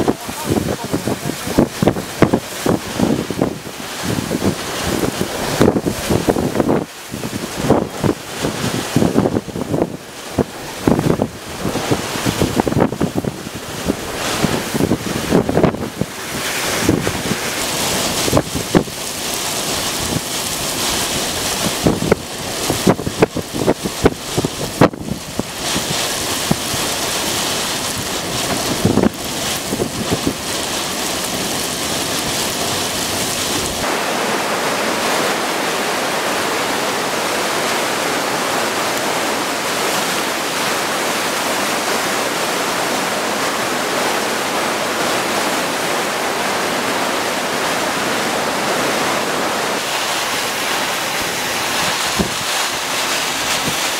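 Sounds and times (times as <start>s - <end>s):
rush of wind and rain: 0.0s - 53.9s
wind buffeting microphone: 0.0s - 53.9s.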